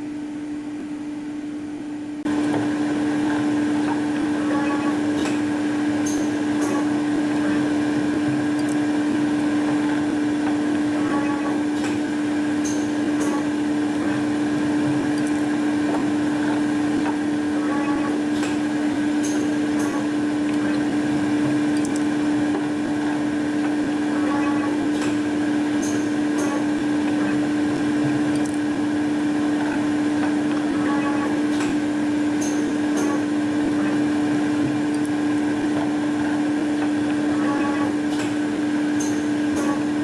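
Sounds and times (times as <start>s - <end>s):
coil winding machine motor hum: 0.0s - 40.0s.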